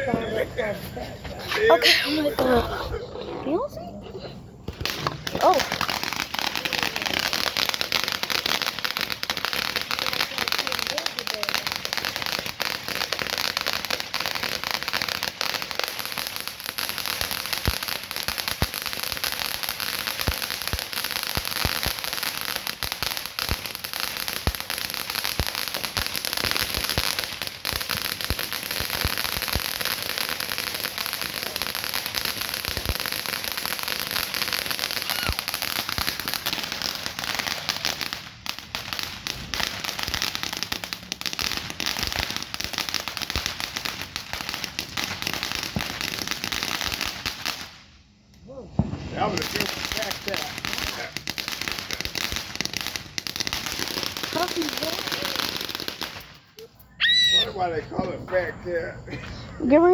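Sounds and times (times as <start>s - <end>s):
firework crackling and popping: 0.0s - 3.7s, 4.5s - 59.9s.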